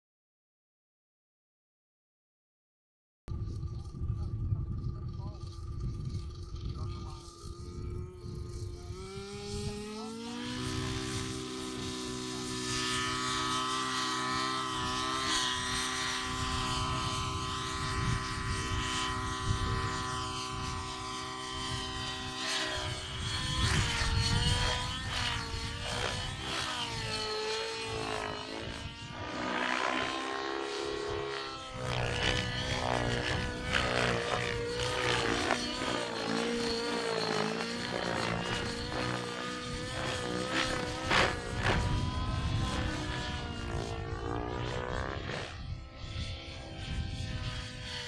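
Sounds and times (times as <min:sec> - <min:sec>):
model helicopter engine and rotor: 0:03.3 - 0:48.0.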